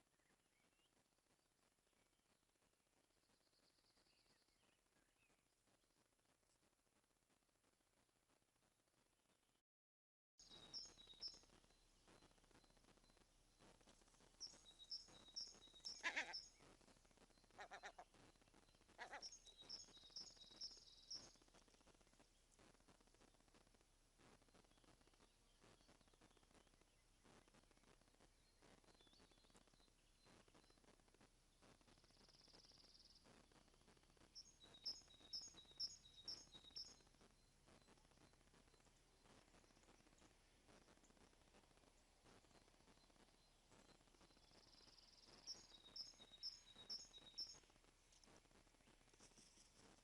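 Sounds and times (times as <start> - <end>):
faint outdoor hiss: 0.0 - 9.6, 10.4 - 50.0.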